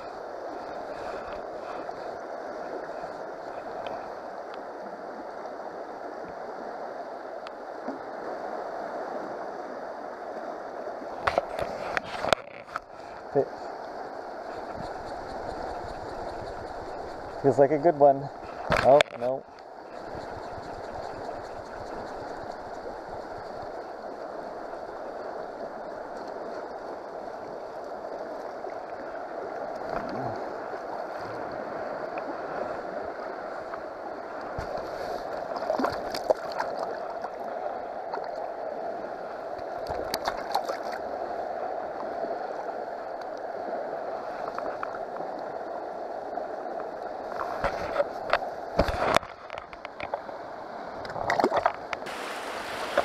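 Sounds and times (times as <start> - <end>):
river water gurgling: 0.0 - 53.0.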